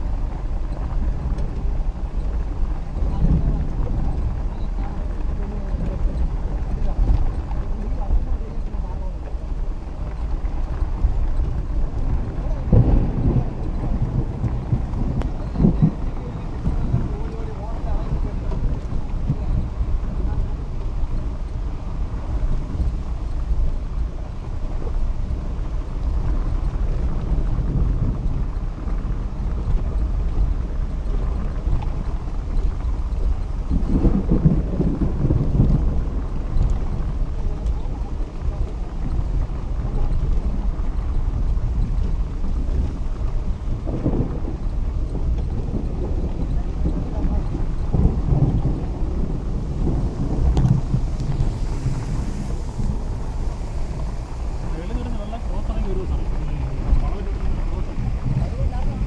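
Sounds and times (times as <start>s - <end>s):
vehicle rumbling through heavy rain: 0.0s - 59.0s
wind buffeting microphone: 0.0s - 59.0s.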